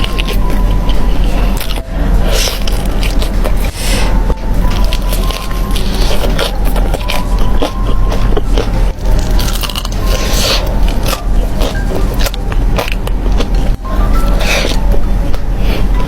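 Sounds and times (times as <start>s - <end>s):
crunchy chewing of fried chicken: 0.0s - 16.0s.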